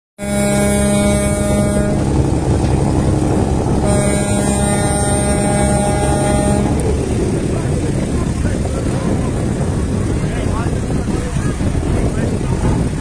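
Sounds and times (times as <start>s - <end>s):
diesel engine low hum: 0.2s - 13.0s
steady higher engine tones: 0.2s - 13.0s.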